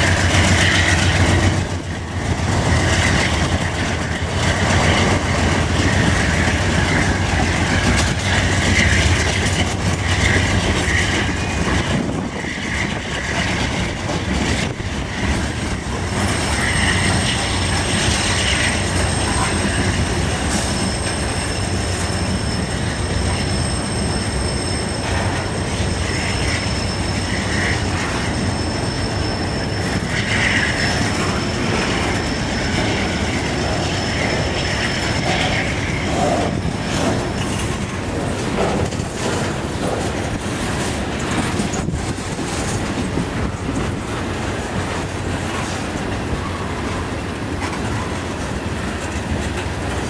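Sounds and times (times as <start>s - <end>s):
high wheel squeal: 0.0s - 50.0s
train wheels rumbling on rail: 0.0s - 50.0s.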